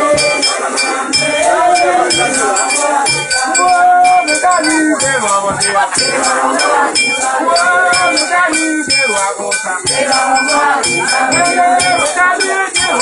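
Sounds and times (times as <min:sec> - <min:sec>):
group singing: 0:00.0 - 0:13.0
metallic ringing strikes: 0:00.0 - 0:13.0
percussion beat: 0:00.0 - 0:13.0.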